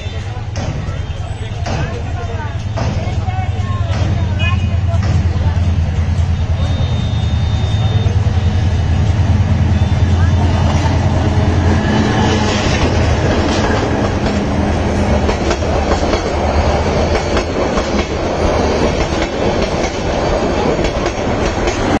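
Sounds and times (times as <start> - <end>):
train rumble: 0.0 - 22.0
train wheels clicking over rail joints: 0.1 - 22.0.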